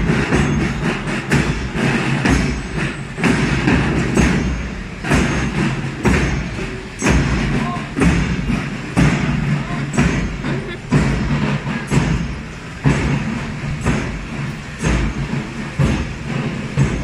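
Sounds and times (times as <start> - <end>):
crowd noise: 0.0 - 17.0
traffic: 0.0 - 17.0.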